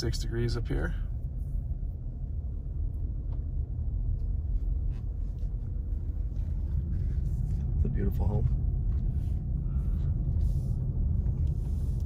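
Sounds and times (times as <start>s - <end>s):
car driving interior rumble: 0.0s - 12.0s.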